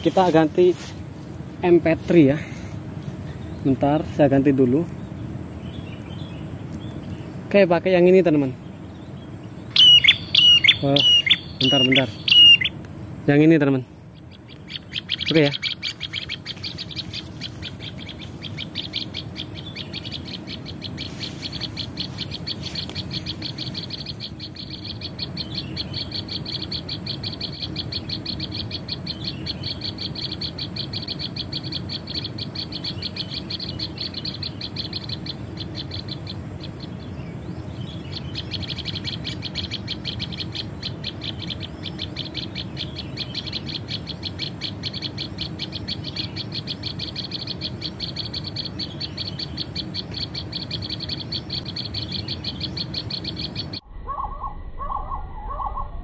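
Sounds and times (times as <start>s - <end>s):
recorded bird chirping through speaker: 3.3s - 56.0s.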